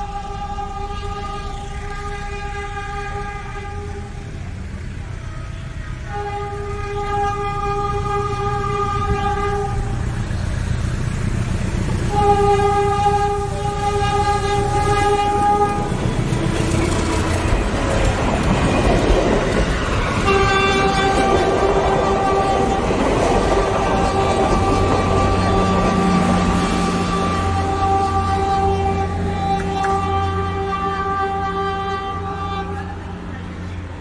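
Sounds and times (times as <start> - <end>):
train horn blasts: 0.0 - 4.5, 5.2 - 10.7, 11.8 - 34.0
moving train rumble: 0.0 - 34.0
rushing noise: 0.0 - 34.0.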